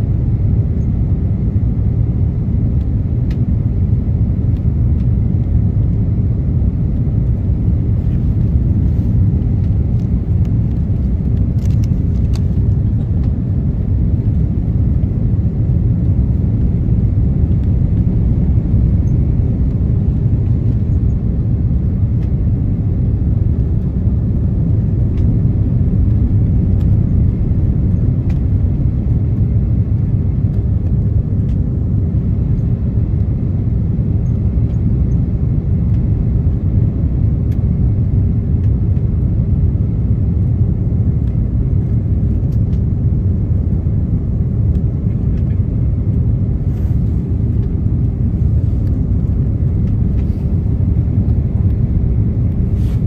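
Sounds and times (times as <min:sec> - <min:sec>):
airplane engine and airflow noise: 0:00.0 - 0:53.0
faint steady hum: 0:00.0 - 0:53.0.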